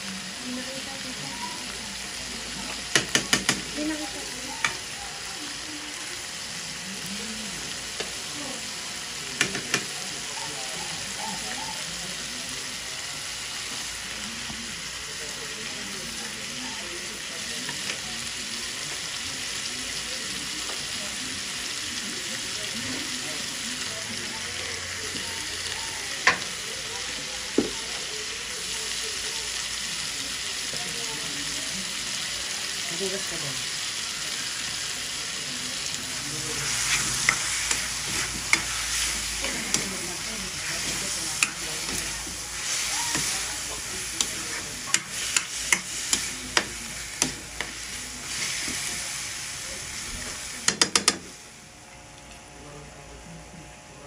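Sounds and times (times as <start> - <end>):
food sizzling in hot oil: 0.0 - 52.4.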